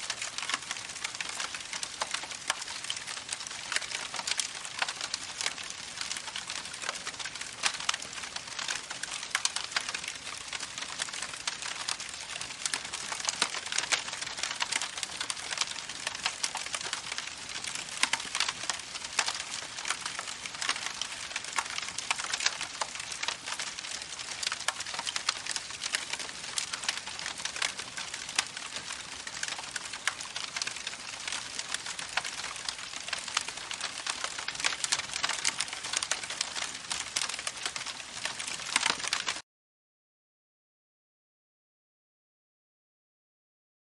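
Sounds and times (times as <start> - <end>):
campfire crackling and popping: 0.0 - 39.4.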